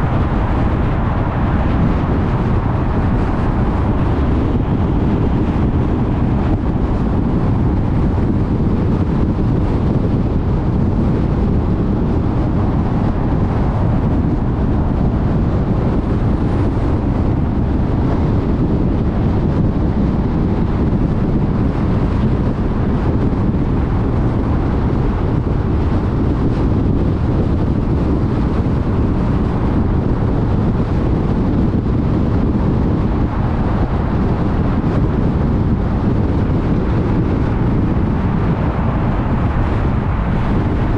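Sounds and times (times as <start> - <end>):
tyres rumbling on road: 0.0 - 40.9
wind rushing past: 0.0 - 40.9.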